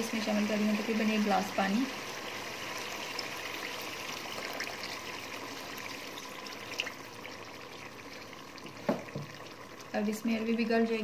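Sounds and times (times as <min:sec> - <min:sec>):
water pouring into pot: 0:00.0 - 0:11.0.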